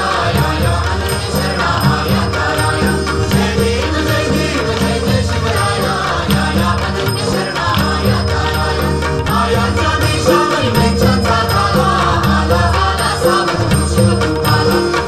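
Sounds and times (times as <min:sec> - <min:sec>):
chanted singing: 0:00.0 - 0:15.0
rhythmic percussion: 0:00.0 - 0:15.0.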